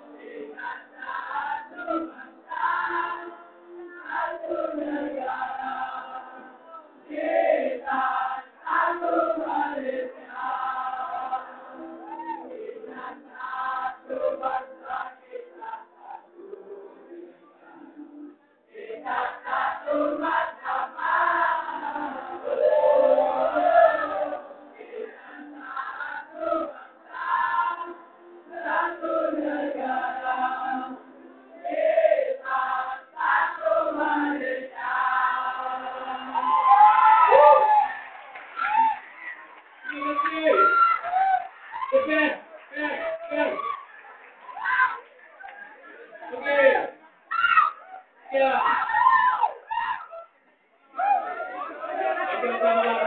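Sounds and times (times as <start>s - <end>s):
crowd of students singing: 0.0s - 47.0s, 51.0s - 53.0s.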